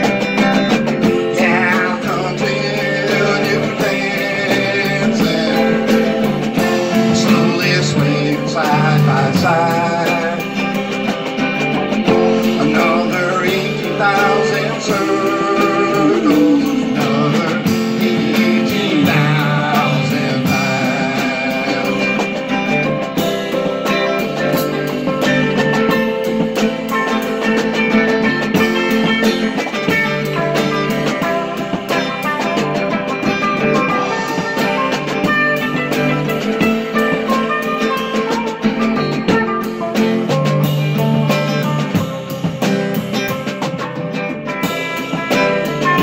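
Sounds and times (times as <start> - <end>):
electric guitar: 0.0 - 46.0
second guitar: 0.0 - 46.0.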